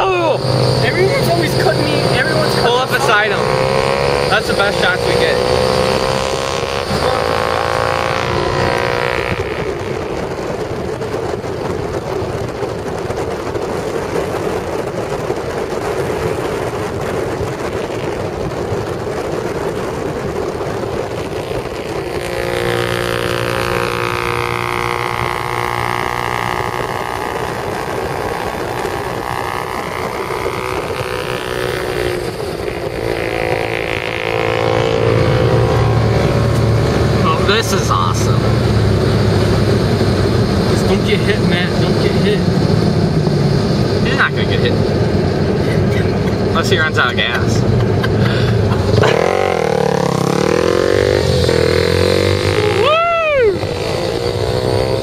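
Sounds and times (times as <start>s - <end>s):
dirt bike engine running: 0.0s - 55.0s
road noise: 0.0s - 55.0s
wind: 0.0s - 55.0s.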